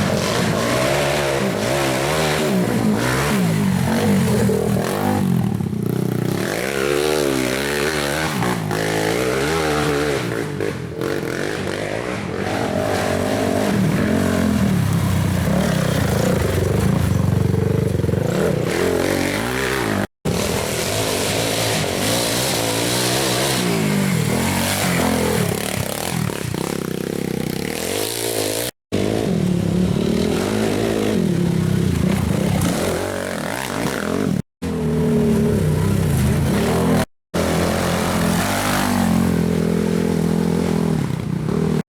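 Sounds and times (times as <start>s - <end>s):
racing quad engines revving: 0.0s - 41.9s.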